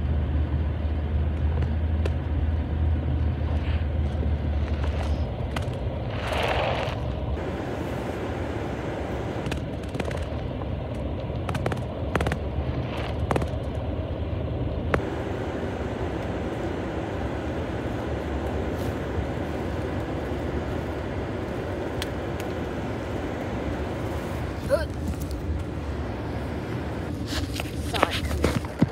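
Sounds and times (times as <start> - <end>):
car cabin road and engine noise: 0.0 - 28.9.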